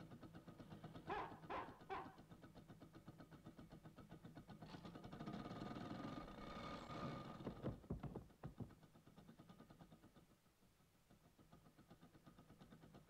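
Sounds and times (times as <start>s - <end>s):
cartoon old car engine chugging: 0.0s - 13.0s.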